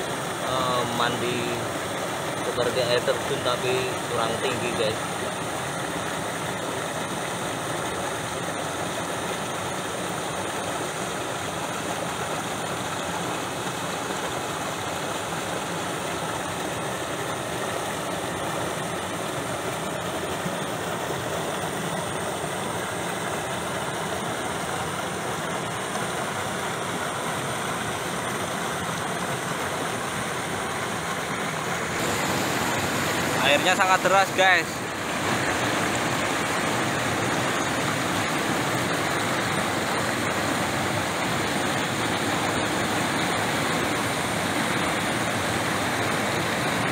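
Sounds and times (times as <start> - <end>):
river water rushing over rocks: 0.0 - 46.9.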